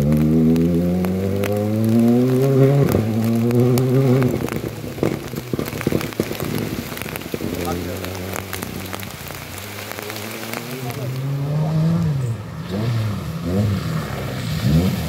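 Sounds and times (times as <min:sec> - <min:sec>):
heavy rain falling: 0:00.0 - 0:15.0
rally car engine accelerating: 0:00.0 - 0:15.0
ticking raindrops: 0:00.0 - 0:15.0.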